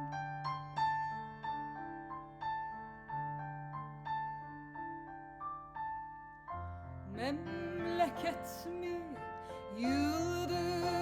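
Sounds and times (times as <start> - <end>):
slow piano phrase: 0.0 - 11.0.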